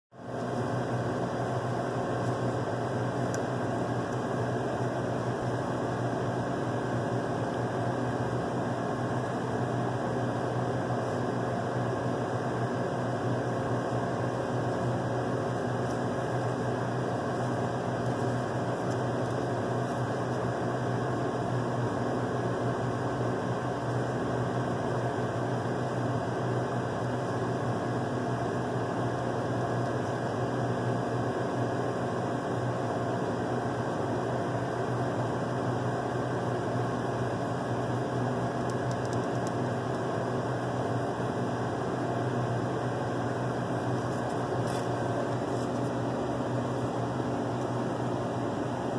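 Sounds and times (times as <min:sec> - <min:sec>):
machine hum: 0:00.2 - 0:48.9.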